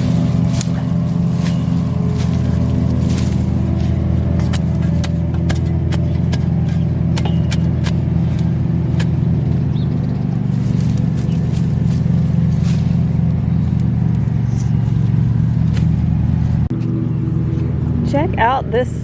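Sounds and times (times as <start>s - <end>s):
loud motor drone: 0.0s - 19.0s.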